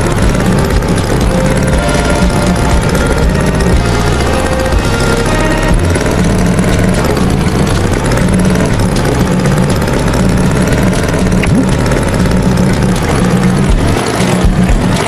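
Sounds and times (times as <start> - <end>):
cartoon tractor engine chugging: 0.0 - 15.0.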